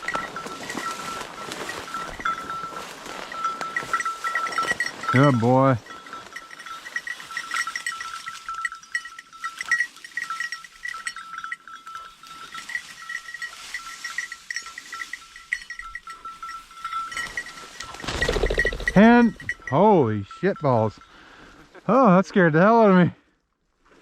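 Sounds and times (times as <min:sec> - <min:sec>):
rustling of brush: 0:00.0 - 0:19.7
collar bell jingling: 0:00.0 - 0:22.5.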